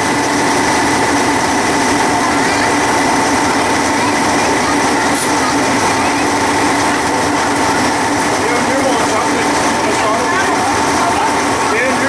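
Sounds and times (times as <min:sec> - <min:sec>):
machinery hum: 0:00.0 - 0:12.0
train wheels on rail: 0:00.0 - 0:12.0.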